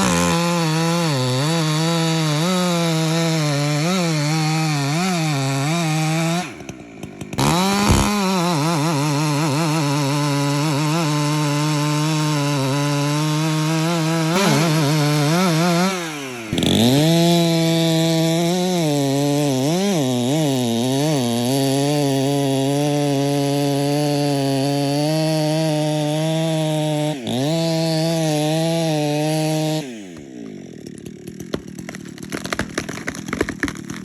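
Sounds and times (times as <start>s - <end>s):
chainsaw cutting a log: 0.0s - 34.0s.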